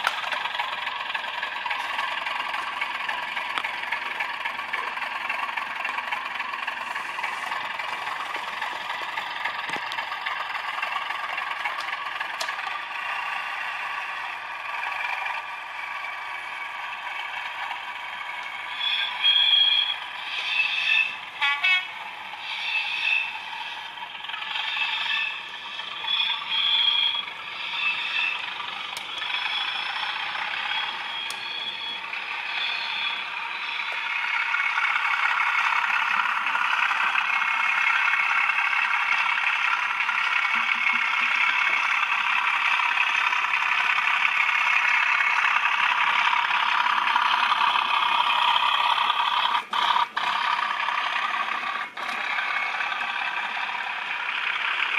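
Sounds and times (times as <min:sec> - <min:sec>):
model train rattling on track: 0:00.0 - 0:54.9
recorded diesel engine sound: 0:00.0 - 0:54.9.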